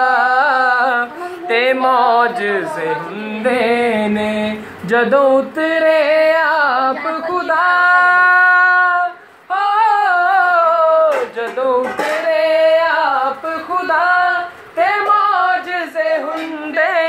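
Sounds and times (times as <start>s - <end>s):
man singing devotional song: 0.0s - 17.0s.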